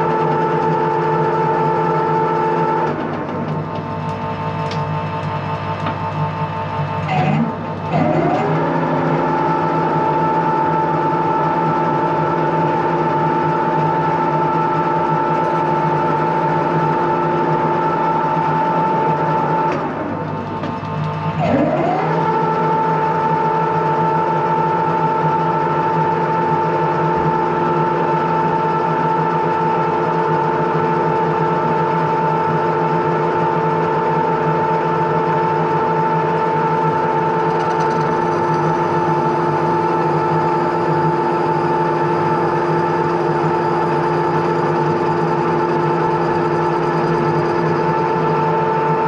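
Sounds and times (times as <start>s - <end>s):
metal lathe whine: 0.0s - 49.0s.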